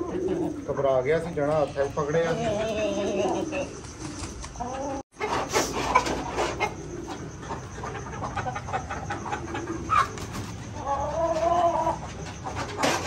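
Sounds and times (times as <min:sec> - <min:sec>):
chickens scuffing and pecking: 0:00.0 - 0:13.0
chicken drawn-out call: 0:02.0 - 0:13.0.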